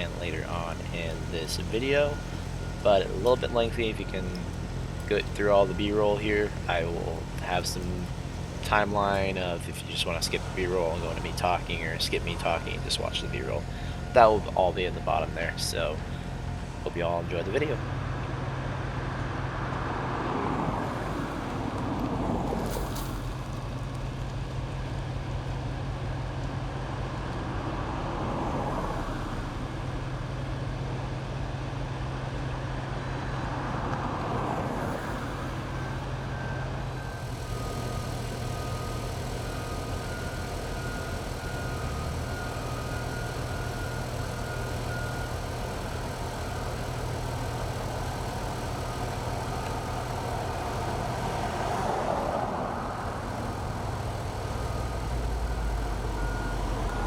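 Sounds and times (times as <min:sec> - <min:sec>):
freeway traffic: 0:00.0 - 0:57.0
low engine hum: 0:00.0 - 0:57.0
vehicles passing: 0:00.0 - 0:57.0.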